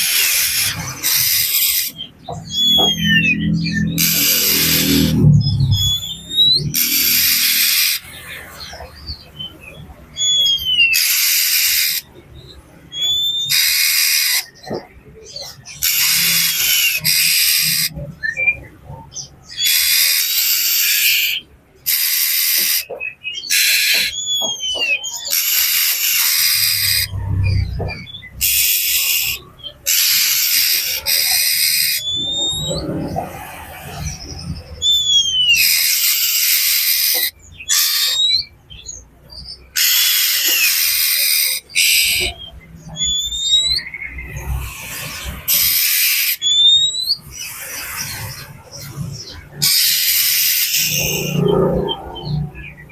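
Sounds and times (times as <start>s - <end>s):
bird harsh scold calls: 0.0s - 52.9s.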